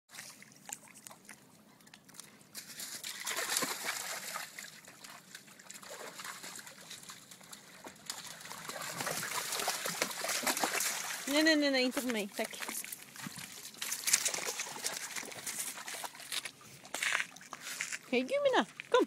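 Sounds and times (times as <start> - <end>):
paws splashing in shallow water: 0.1 - 19.0.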